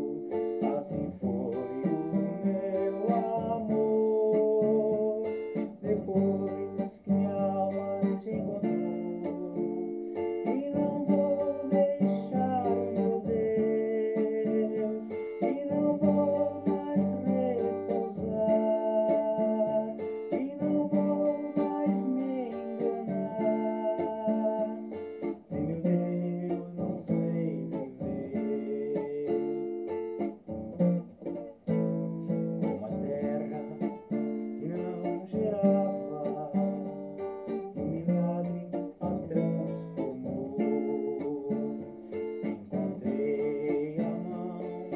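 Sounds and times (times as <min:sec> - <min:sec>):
acoustic guitar playing: 0:00.0 - 0:44.9.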